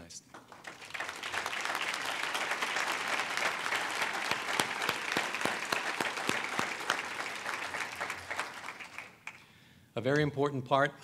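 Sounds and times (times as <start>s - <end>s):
audience applauding: 0.3s - 9.4s
single claps close to microphone: 0.3s - 9.4s.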